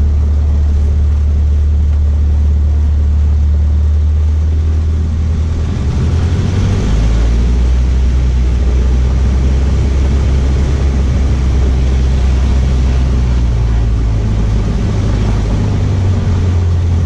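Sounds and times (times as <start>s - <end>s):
aircraft engine low hum: 0.0s - 17.0s.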